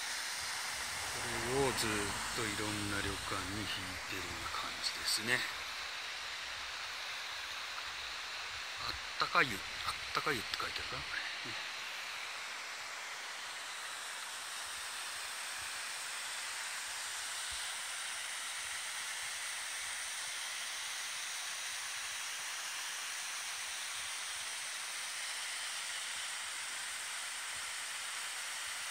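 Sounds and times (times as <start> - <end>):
rushing hiss of flowing water: 0.0 - 28.9.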